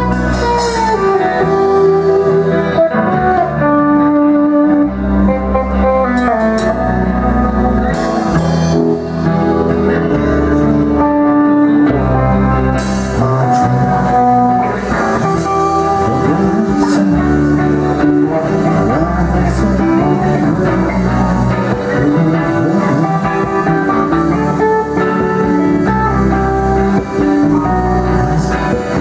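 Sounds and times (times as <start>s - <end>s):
bass guitar: 0.0s - 29.0s
drums: 0.0s - 29.0s
electric guitar: 0.0s - 29.0s.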